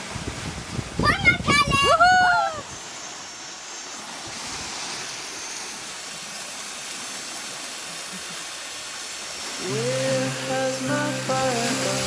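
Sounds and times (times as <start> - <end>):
boat wake water rushing: 0.0 - 12.0.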